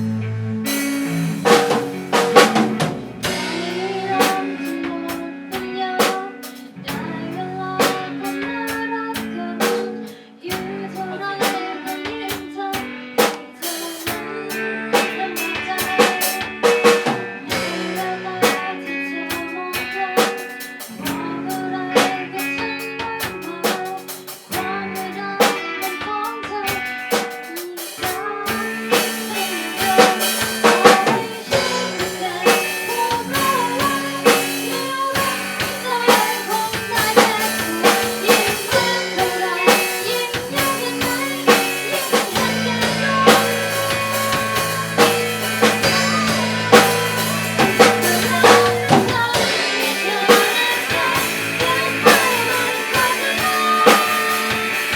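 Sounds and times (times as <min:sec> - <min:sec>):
drum kit beat: 0:00.0 - 0:54.9.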